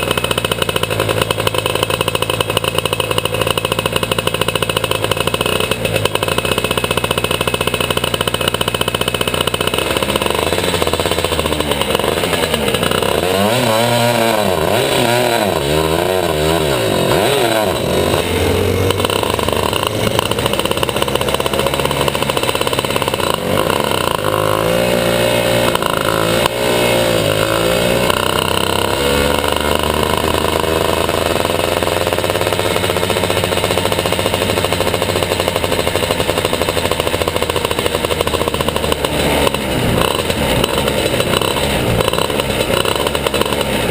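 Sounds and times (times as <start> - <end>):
two-stroke kart engine revving: 0.0 - 43.9.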